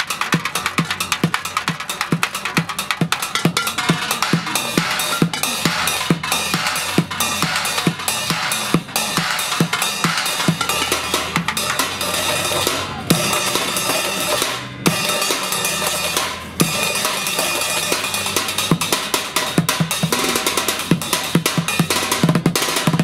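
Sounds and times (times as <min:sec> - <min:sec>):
drumsticks on buckets and pots: 0:00.0 - 0:22.3
cymbals clattering: 0:00.0 - 0:23.0.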